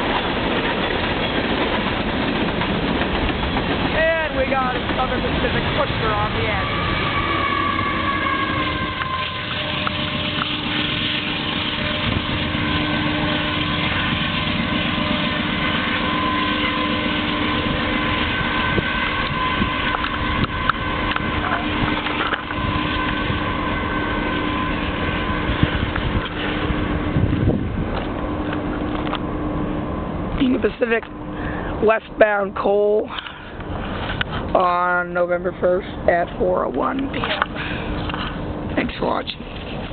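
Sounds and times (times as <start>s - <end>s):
train wheels roaring on rail: 0.0s - 39.9s.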